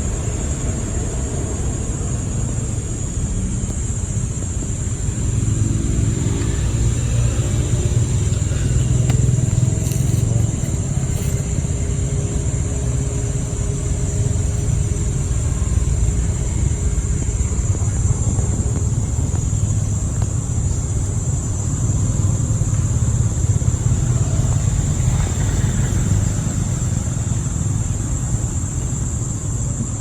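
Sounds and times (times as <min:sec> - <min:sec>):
low engine rumble: 0:00.0 - 0:30.0.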